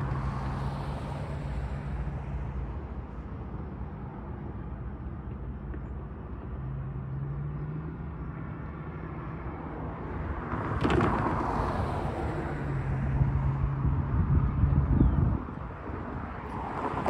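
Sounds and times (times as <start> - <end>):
distant road traffic rumble: 0.0 - 17.0
low engine hum: 0.0 - 17.0.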